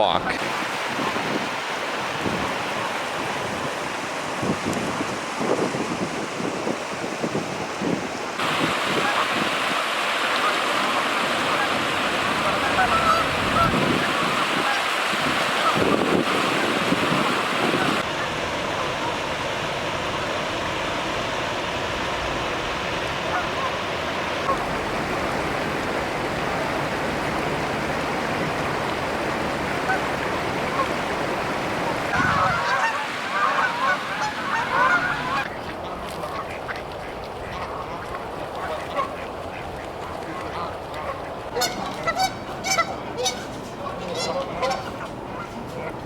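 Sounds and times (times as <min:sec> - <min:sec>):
river water flowing: 0:00.0 - 0:46.0
waterfowl calling: 0:08.4 - 0:46.0.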